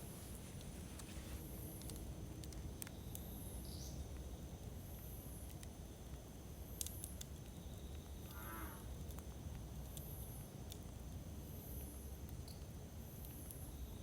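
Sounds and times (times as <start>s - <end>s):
campfire crackling and popping: 0.0s - 3.4s, 4.0s - 8.3s, 8.9s - 13.7s
low fire rumble: 0.0s - 13.7s.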